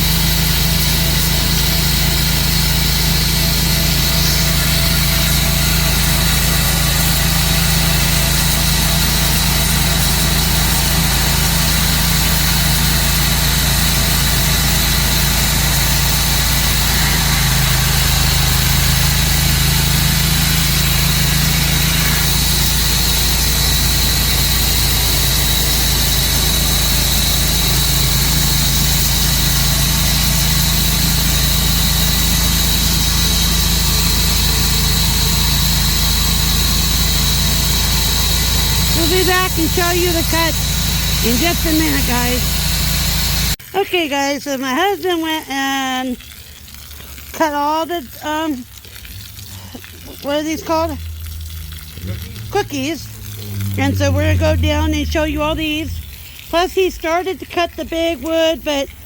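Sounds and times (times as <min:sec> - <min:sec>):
sawmill engine running: 0:00.0 - 0:43.6, 0:46.2 - 0:59.0.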